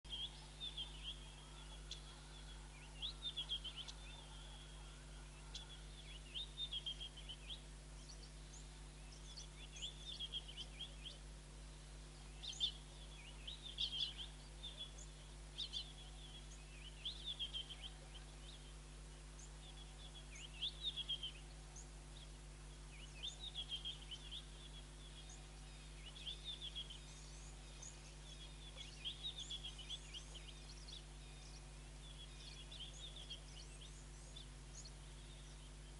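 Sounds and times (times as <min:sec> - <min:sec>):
wild birds singing: 0:00.0 - 0:35.9
steady low hum: 0:00.1 - 0:35.9.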